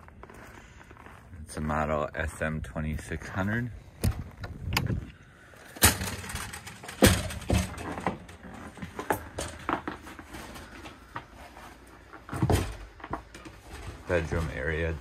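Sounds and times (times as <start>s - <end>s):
footsteps on trailer floor: 0.0s - 4.4s, 7.2s - 15.0s.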